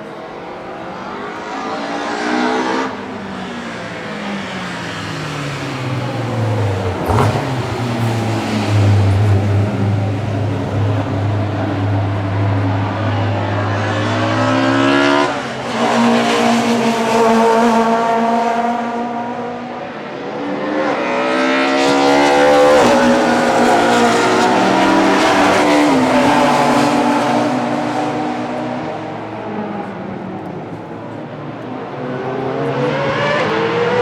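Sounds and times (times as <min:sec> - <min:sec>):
race car engines accelerating: 0:00.0 - 0:34.0.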